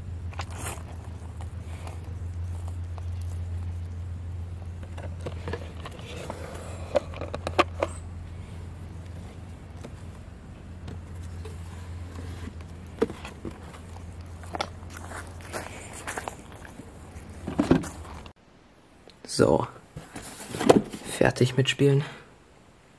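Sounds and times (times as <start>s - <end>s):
steady low hum: 0.0s - 21.2s
cardboard rustling and scraping: 0.4s - 18.4s, 19.9s - 21.2s.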